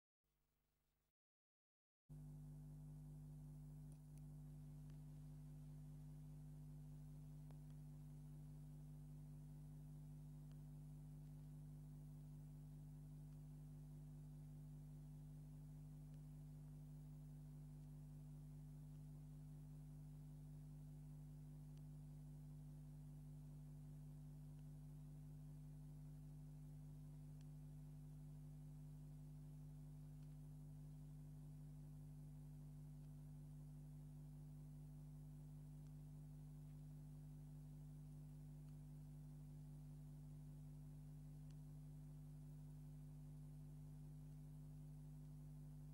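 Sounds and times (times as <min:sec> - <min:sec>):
faint low hum: 0:02.1 - 0:45.9.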